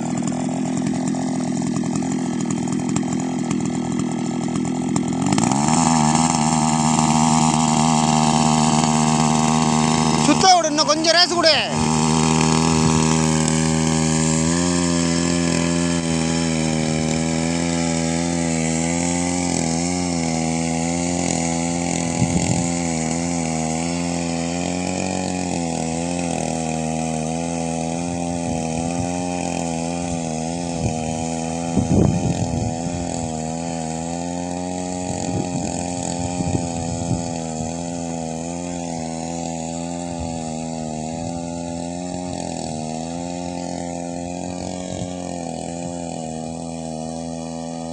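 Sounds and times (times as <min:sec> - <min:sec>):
small petrol engine running: 0:00.0 - 0:47.9.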